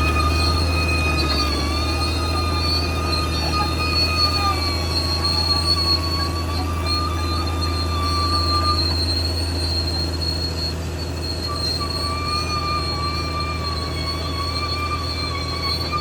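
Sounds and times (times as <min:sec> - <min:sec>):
bulldozer diesel engine drone: 0:00.0 - 0:16.0
metallic track squealing: 0:00.0 - 0:16.0.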